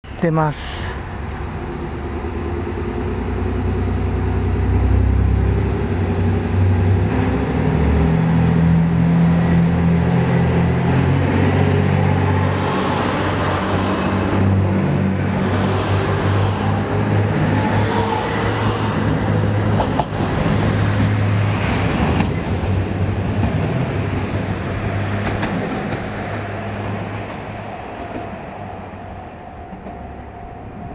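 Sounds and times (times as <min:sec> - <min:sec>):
diesel train engine drone: 0:00.0 - 0:30.9
train wheels rumbling on rails: 0:01.0 - 0:30.9.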